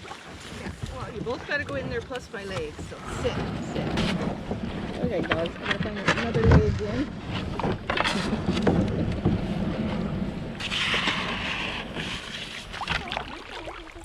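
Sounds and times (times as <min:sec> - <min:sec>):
water rushing or hull scraping: 0:00.0 - 0:14.0
wind buffeting microphone: 0:00.0 - 0:14.0.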